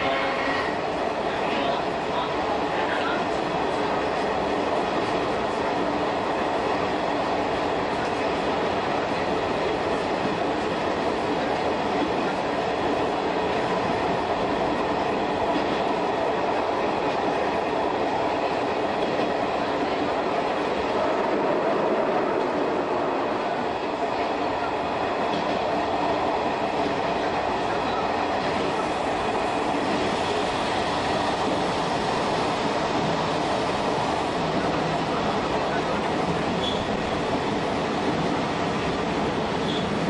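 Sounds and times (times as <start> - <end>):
train wheels on rails: 0.0 - 40.0.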